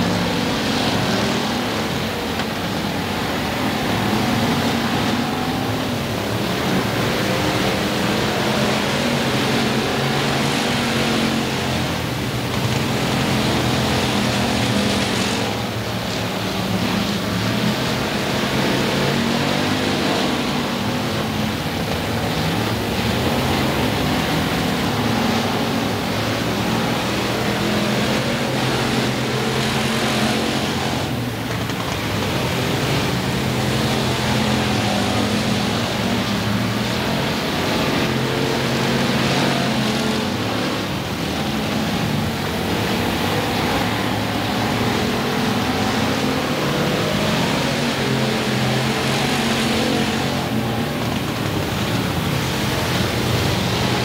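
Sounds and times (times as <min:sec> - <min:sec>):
race car engines running: 0:00.0 - 0:54.0.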